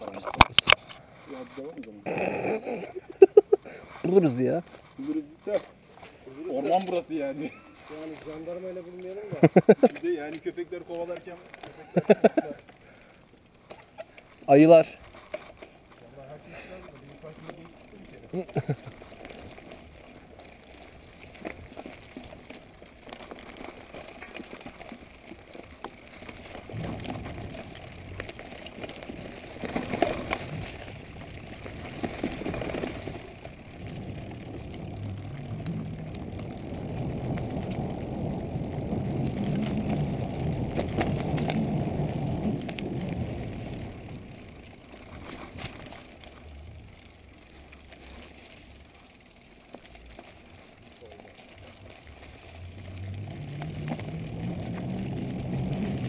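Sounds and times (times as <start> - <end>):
bike knocking and rattling: 0.0 - 56.0
bike tyres rumbling over dirt: 1.3 - 56.0.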